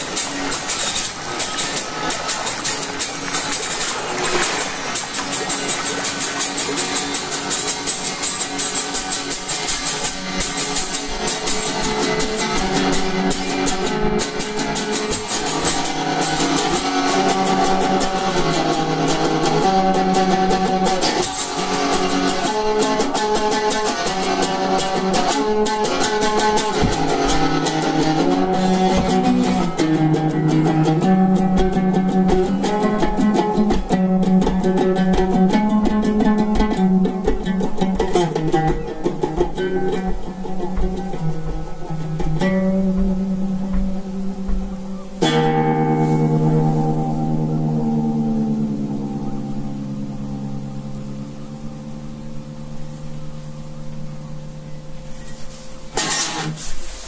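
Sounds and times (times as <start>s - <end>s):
instrumental guitar chords: 0.0s - 57.0s.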